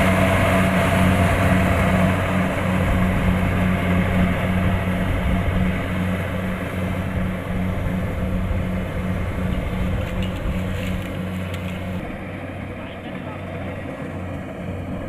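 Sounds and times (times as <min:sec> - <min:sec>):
combine harvester diesel engine: 0:00.0 - 0:15.0.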